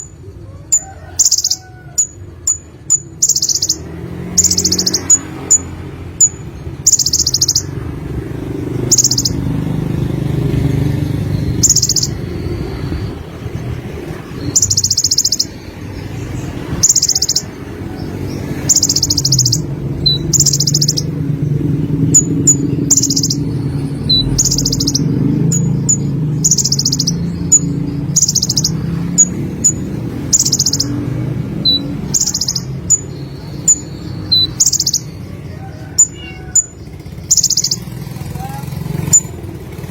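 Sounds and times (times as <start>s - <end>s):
bird chirps: 0.0s - 39.5s
bird singing buzzy trills: 0.0s - 39.9s.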